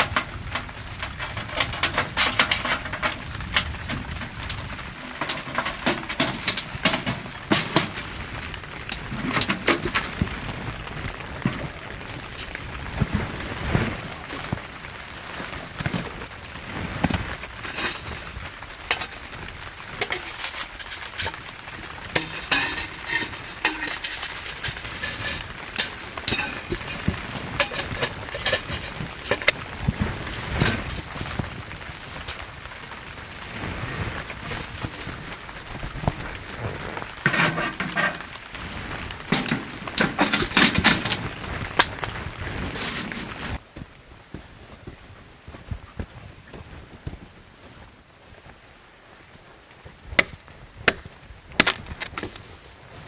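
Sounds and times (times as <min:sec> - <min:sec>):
clicks taps and rustles: 0:00.0 - 0:47.2, 0:50.2 - 0:53.0
steady rain falling: 0:00.0 - 0:53.0.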